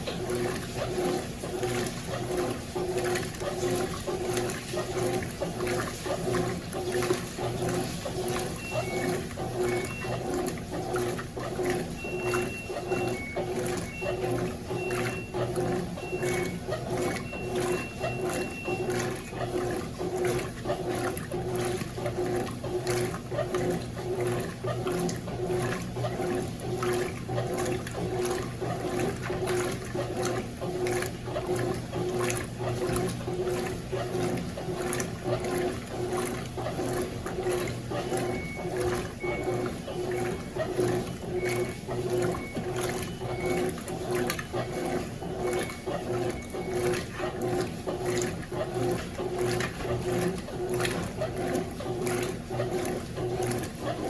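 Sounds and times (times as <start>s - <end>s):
washing machine motor humming: 0.0s - 54.0s
water sloshing: 0.0s - 54.0s.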